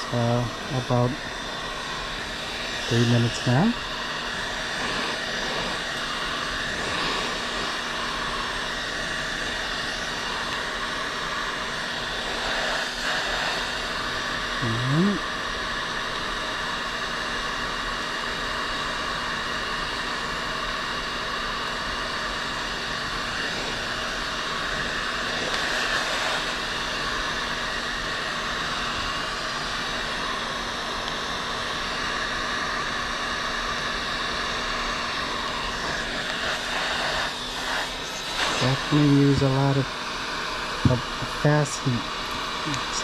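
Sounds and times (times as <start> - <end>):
heat gun blowing air: 0.0 - 43.0.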